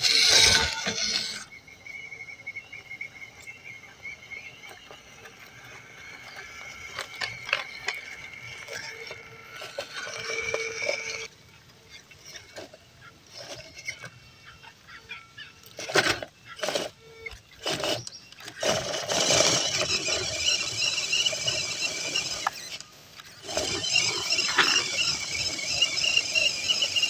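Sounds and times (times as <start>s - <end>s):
electric motor and gears whining: 0.0s - 27.0s.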